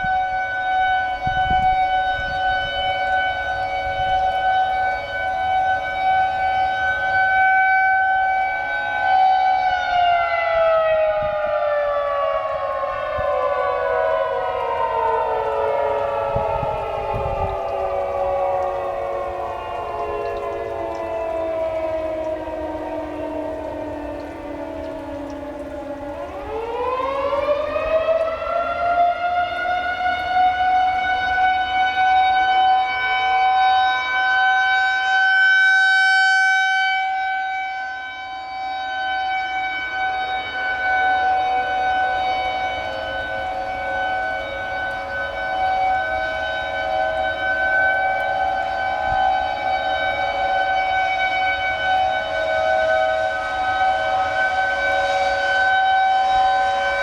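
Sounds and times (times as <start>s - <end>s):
tornado warning siren winding up: 0.0s - 57.0s.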